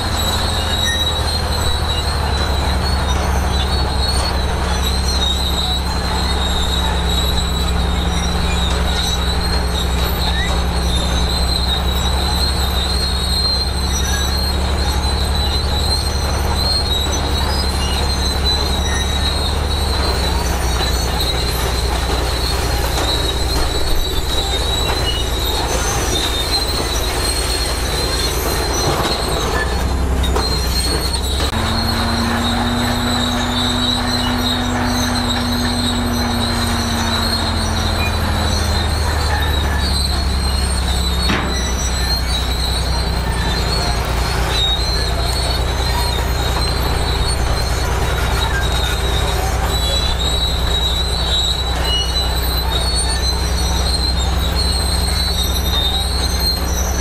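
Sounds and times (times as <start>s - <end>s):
diesel engine droning: 0.0s - 57.0s
steel tracks squealing: 0.0s - 57.0s.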